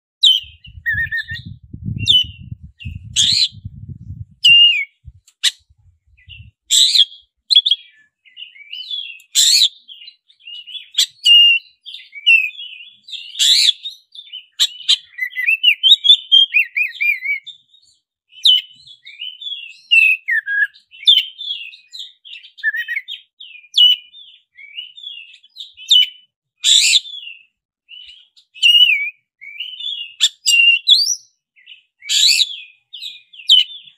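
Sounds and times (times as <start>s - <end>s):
songbird singing whistles and chatters: 0.2s - 33.9s.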